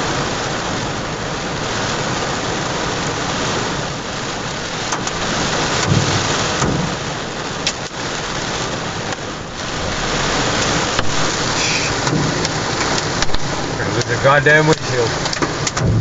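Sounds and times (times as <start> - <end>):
heavy rain on a truck: 0.0 - 16.0
hailstones hitting a truck: 3.0 - 16.0.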